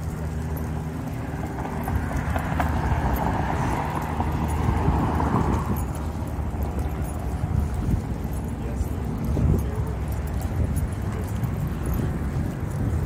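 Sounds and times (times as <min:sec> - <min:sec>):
road traffic rumble: 0:00.0 - 0:13.0
vehicle passing: 0:00.0 - 0:13.0.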